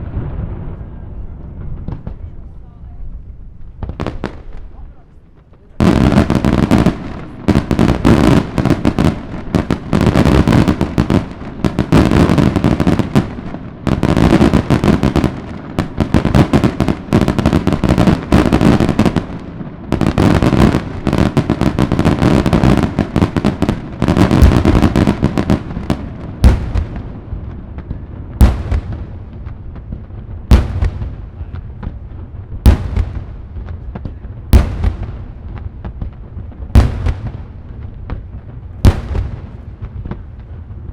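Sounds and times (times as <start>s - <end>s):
firework explosions: 0.0s - 40.9s
loud firework bangs: 0.0s - 40.9s.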